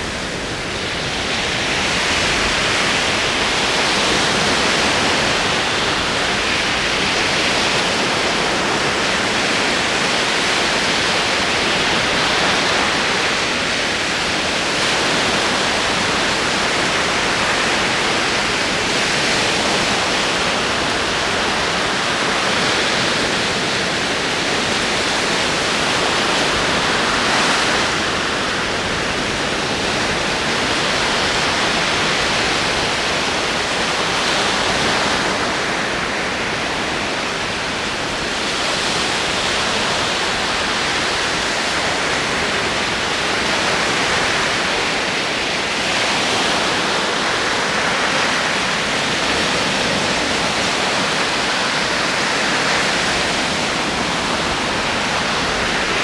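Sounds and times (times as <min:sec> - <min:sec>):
ocean waves rolling in: 0:00.0 - 0:56.0.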